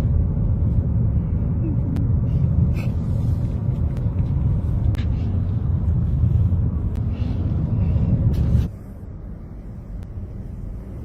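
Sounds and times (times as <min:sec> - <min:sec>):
car driving: 0:00.0 - 0:11.0.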